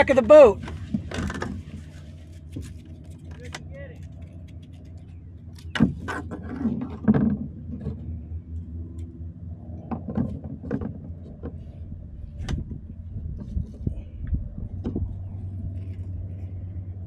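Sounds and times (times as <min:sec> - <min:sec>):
knocks and clatter against kayak: 0:00.0 - 0:08.3, 0:09.0 - 0:16.5
steady low hum: 0:00.0 - 0:17.0.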